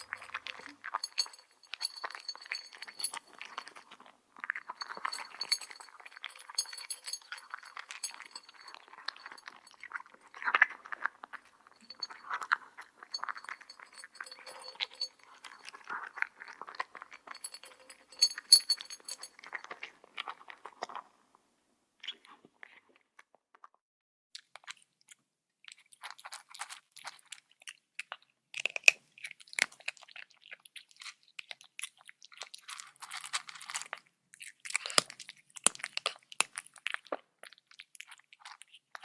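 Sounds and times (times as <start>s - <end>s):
cat chewing and crunching food: 0.0s - 23.8s, 24.4s - 39.0s.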